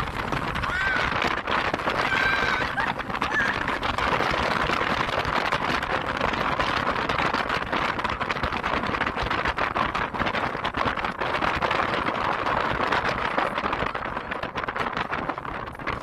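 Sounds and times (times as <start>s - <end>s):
motorcycle engine and road noise: 0.0s - 16.0s
wind buffeting microphone: 0.0s - 16.0s.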